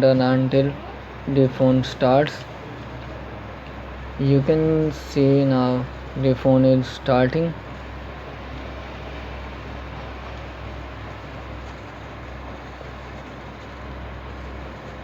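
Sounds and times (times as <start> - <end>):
background hiss: 0.0 - 15.0
low hum: 0.0 - 15.0.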